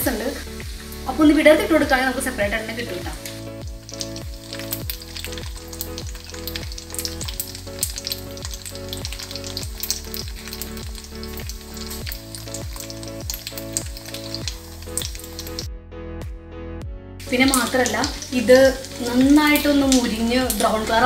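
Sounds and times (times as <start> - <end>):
background music with beat: 0.0 - 1.9, 2.5 - 17.6
food sizzling in hot oil: 0.0 - 15.7, 17.2 - 21.0.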